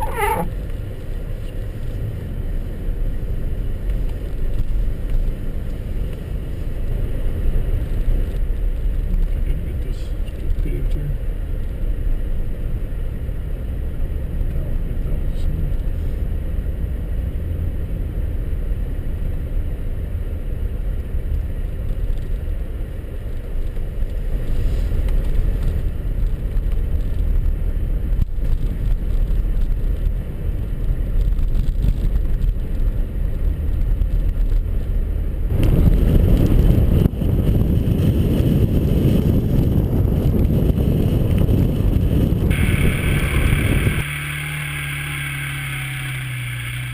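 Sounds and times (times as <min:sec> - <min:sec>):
car driving rumble: 0:00.0 - 0:46.9.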